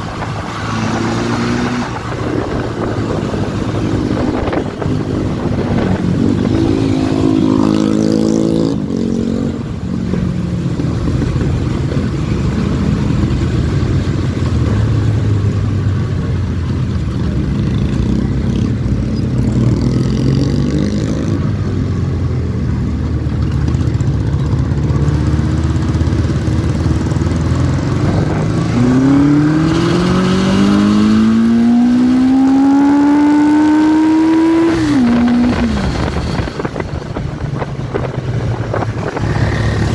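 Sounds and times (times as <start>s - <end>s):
motorcycle engine revving: 0.0s - 15.8s, 23.1s - 39.9s.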